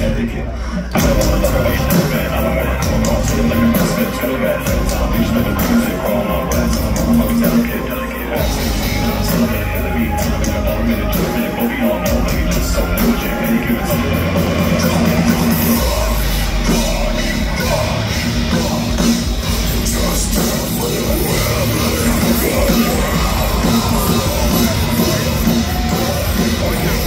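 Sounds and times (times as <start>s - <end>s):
live heavy metal band: 0.0s - 27.0s
person singing: 0.0s - 27.0s.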